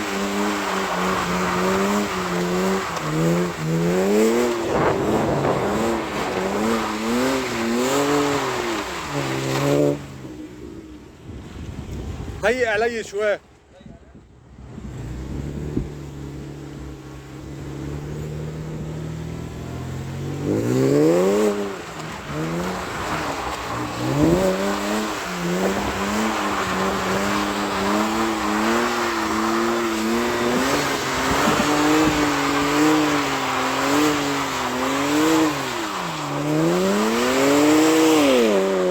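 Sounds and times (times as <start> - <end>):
car engine revving: 0.0 - 11.1, 14.6 - 38.9.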